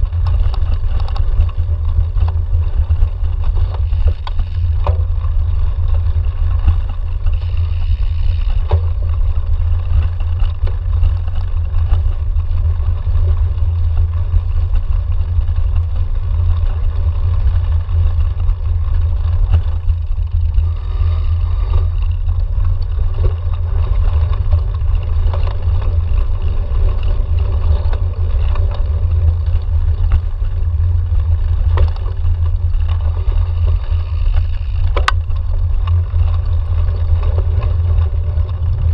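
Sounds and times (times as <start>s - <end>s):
bike clicks and rattles: 0.0s - 38.9s
wind and tyre rumble: 0.0s - 38.9s.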